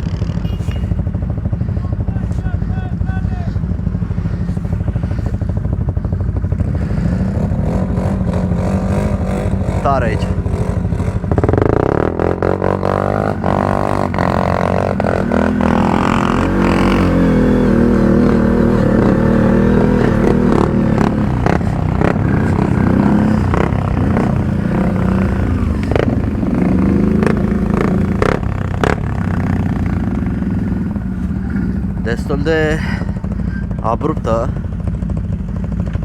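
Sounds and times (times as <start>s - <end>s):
atv engine climbing: 0.0s - 36.0s.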